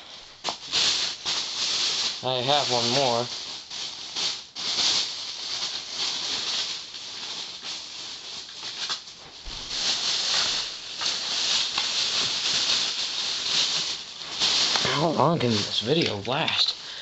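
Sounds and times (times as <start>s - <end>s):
rustling and rattling of objects: 0.0s - 17.0s.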